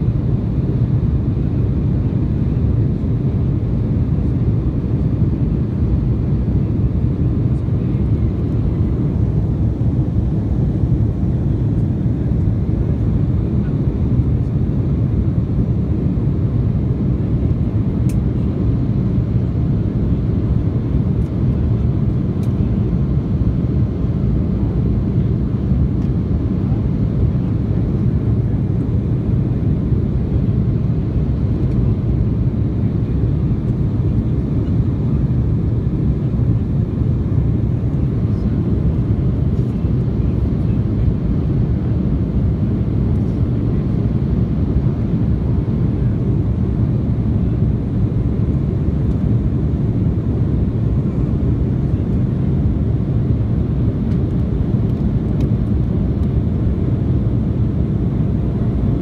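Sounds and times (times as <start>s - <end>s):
airliner engines: 0.0s - 59.0s.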